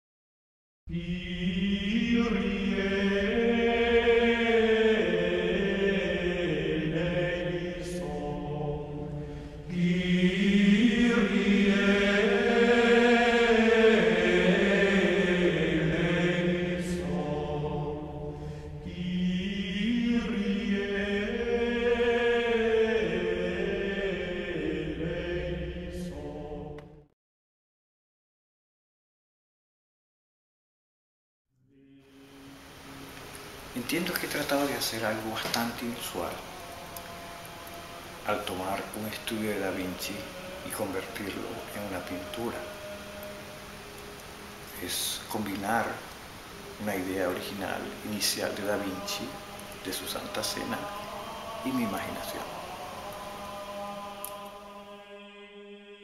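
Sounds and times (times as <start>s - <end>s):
slow choral chant: 0.9s - 27.2s, 31.7s - 56.0s.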